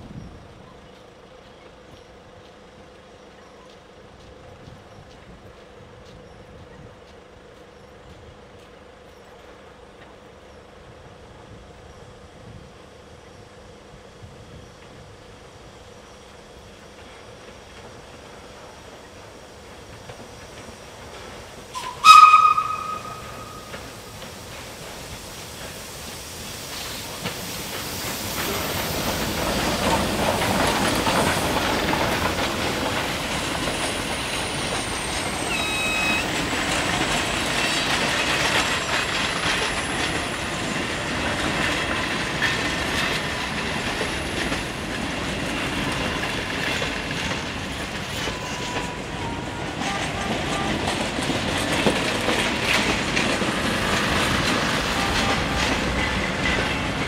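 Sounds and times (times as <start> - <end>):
steam locomotive passing: 0.0 - 57.0
train wheels rolling on track: 0.0 - 57.0.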